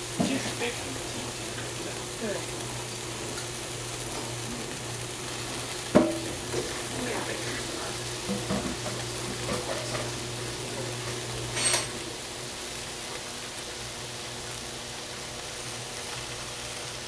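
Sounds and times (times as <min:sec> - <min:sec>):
food sizzling in oil: 0:00.0 - 0:17.0
sharp sizzle burst: 0:00.0 - 0:17.0.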